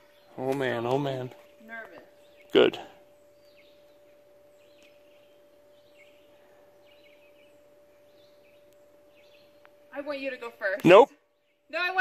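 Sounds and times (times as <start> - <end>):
faint bird chirps: 0.0 - 12.0
faint steady tone: 0.0 - 12.0.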